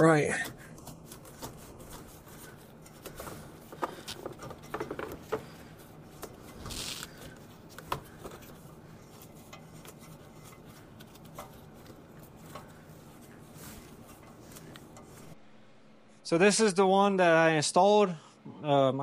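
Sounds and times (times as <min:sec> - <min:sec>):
metal knocking and scraping: 0:00.0 - 0:15.4.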